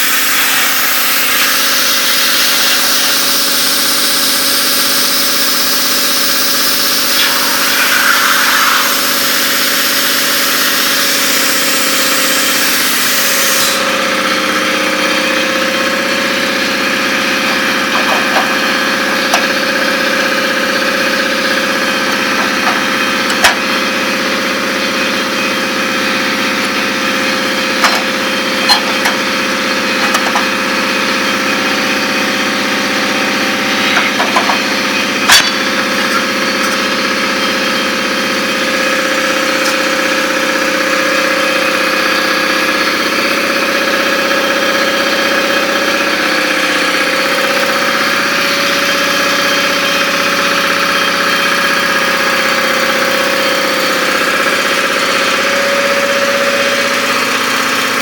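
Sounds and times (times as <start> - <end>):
machine whining steadily: 0.0 - 58.0.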